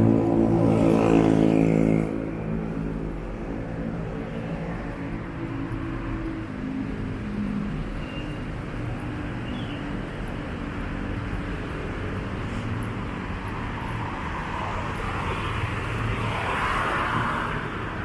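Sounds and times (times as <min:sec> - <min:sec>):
car passing with tyre noise: 0:00.0 - 0:18.0
hum of road traffic: 0:00.0 - 0:18.0.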